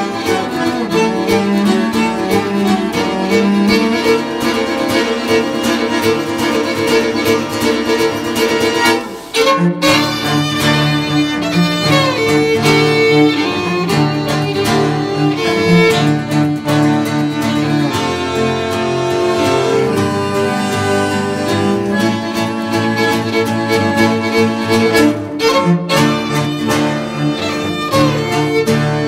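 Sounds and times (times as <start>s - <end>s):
instrumental music with held notes: 0.0s - 29.0s.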